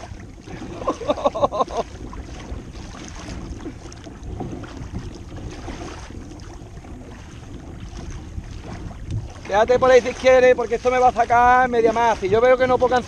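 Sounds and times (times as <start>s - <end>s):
water slapping against a kayak hull: 0.0s - 13.0s
wind buffeting microphone: 0.0s - 13.0s.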